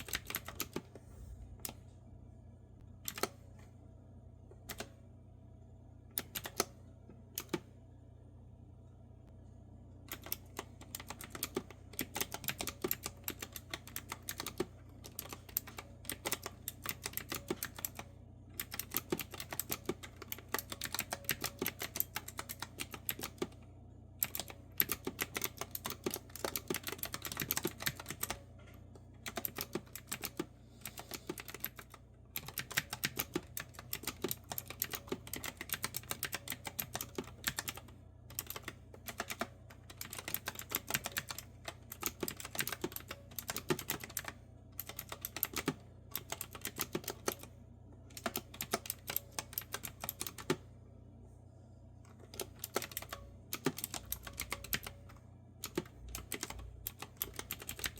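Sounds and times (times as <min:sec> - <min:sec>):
clicky keyboard typing: 0:00.0 - 0:01.0, 0:03.0 - 0:03.4, 0:04.6 - 0:05.0, 0:06.1 - 0:06.8, 0:07.4 - 0:07.7, 0:10.1 - 0:23.6, 0:24.2 - 0:28.4, 0:29.0 - 0:50.6, 0:52.1 - 0:57.9.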